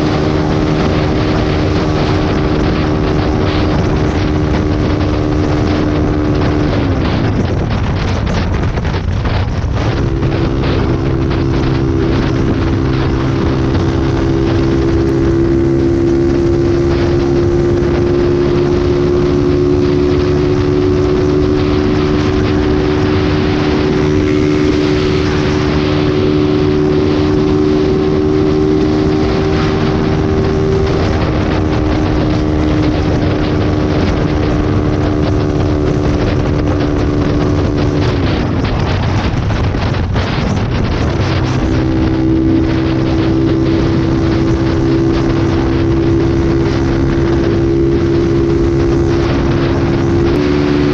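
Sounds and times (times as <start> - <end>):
vehicle engine at high revs: 0.0 - 50.9
wind rush on microphone: 0.0 - 50.9.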